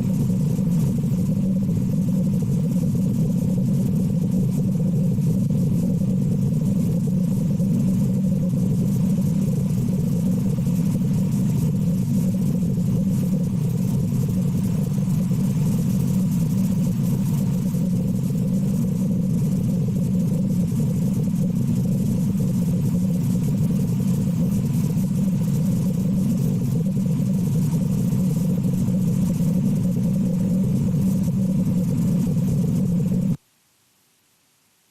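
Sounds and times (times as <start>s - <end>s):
steady low rumble: 0.0s - 33.4s.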